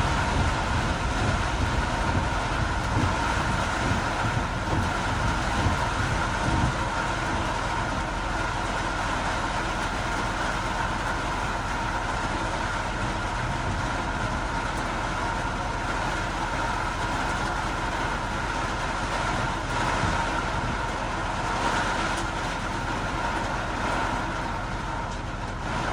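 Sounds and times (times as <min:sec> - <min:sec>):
heavy rain: 0:00.0 - 0:25.9.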